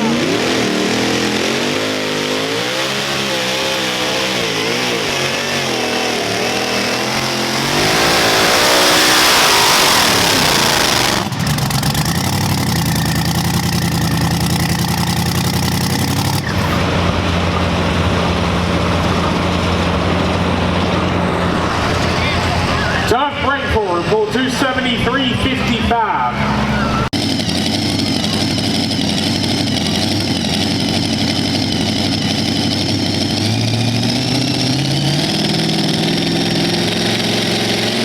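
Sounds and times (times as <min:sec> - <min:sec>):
truck engine under hard throttle: 0:00.0 - 0:38.0.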